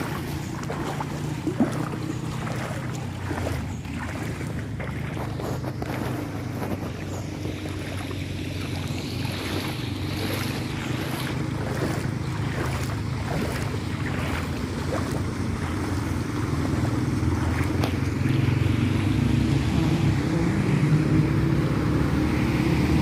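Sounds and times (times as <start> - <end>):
vehicle engine running: 0.0 - 23.0
water splashing and churning: 0.0 - 23.0.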